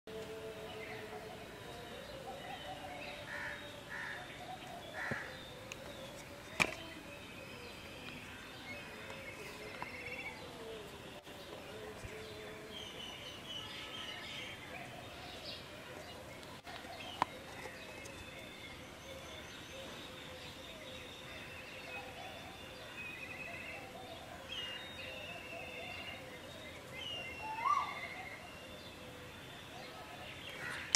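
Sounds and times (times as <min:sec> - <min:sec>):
birds chirping and trilling: 0:00.1 - 0:30.9.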